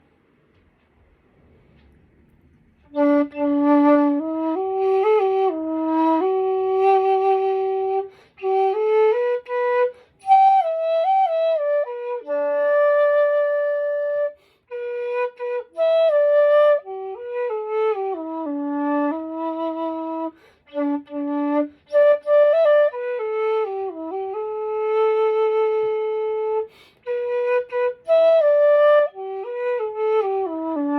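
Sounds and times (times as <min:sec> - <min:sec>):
bamboo flute melody: 0:02.8 - 0:30.9.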